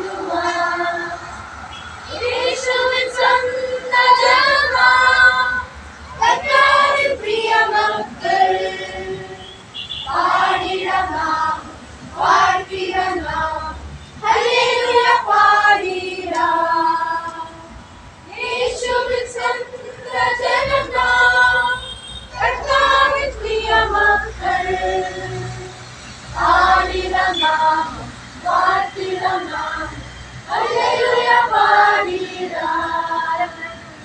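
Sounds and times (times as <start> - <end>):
children singing together: 0.0 - 1.5, 2.1 - 17.7, 18.3 - 25.7, 26.3 - 33.9.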